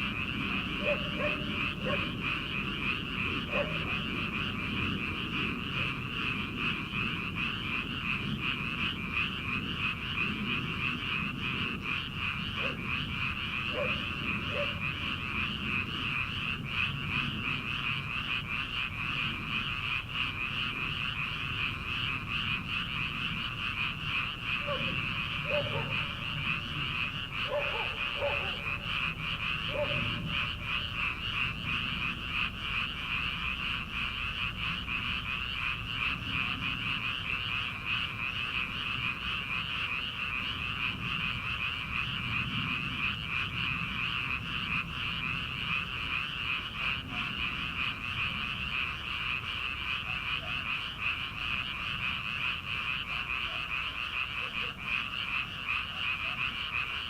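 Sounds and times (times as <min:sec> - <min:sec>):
chorus of frogs croaking: 0:00.0 - 0:57.0.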